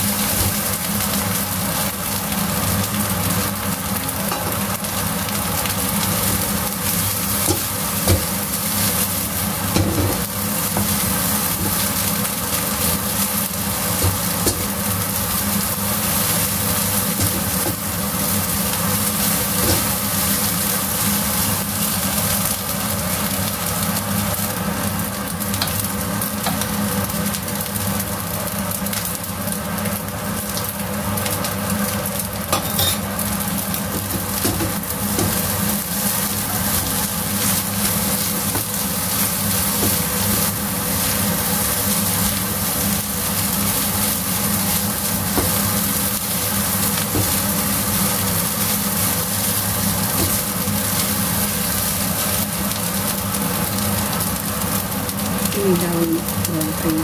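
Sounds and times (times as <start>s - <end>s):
rice sizzling in a wok: 0.0s - 57.0s.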